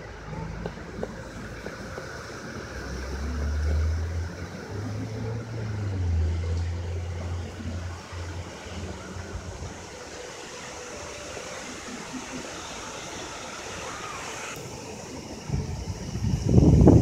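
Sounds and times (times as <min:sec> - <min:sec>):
storm wind rushing through trees: 0:00.0 - 0:17.0.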